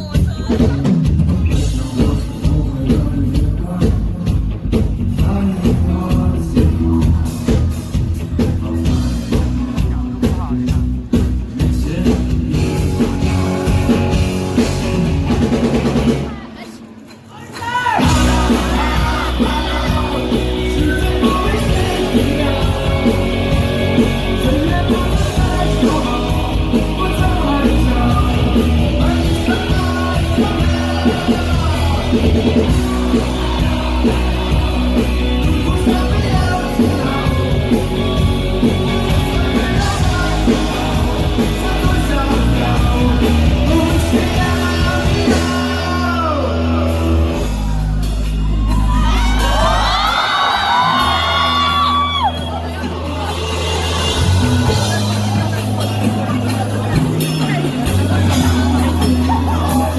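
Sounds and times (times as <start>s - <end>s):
lead singer singing: 0.0s - 16.7s, 17.3s - 59.9s
rock band playing live: 0.0s - 59.9s.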